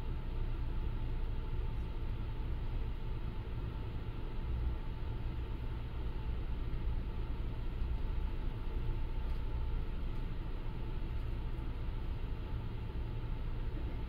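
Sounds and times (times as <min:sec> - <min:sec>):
faint constant whine: 0:00.0 - 0:14.0.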